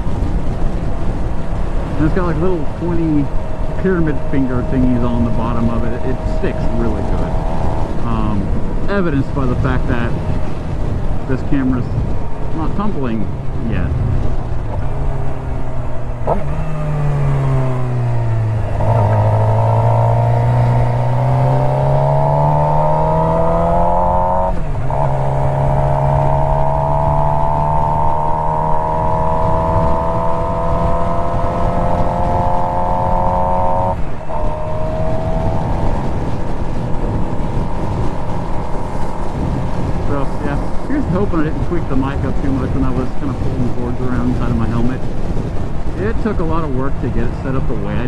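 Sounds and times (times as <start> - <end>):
gear change: 0.0 - 48.0
motorcycle engine revving: 0.0 - 48.0
wind noise: 0.0 - 48.0.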